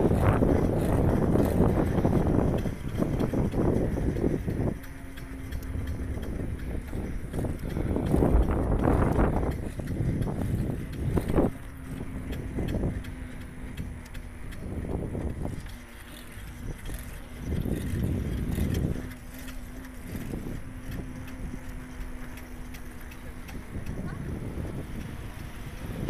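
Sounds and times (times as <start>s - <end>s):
faint steady hum: 0.0s - 26.0s
wind buffeting microphone: 0.0s - 26.0s.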